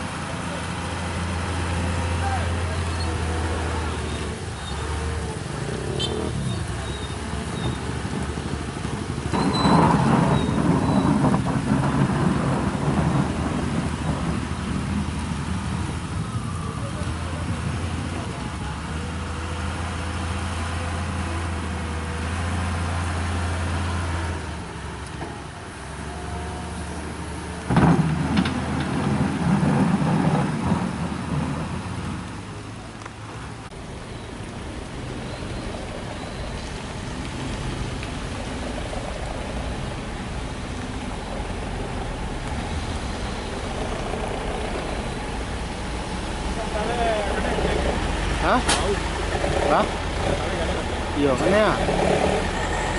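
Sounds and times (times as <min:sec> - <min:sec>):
heavy engine running: 0:00.0 - 0:52.9.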